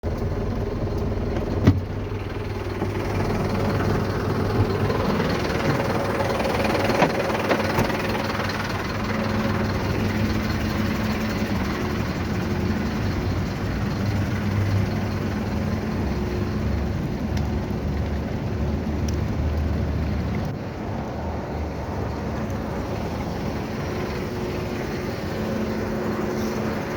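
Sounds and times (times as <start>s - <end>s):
tow truck engine idling: 0.0s - 26.9s.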